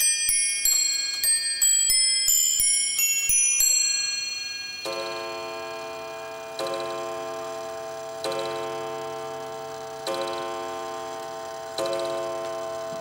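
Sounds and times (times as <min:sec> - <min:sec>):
cup bell chime tune: 0:00.0 - 0:13.0.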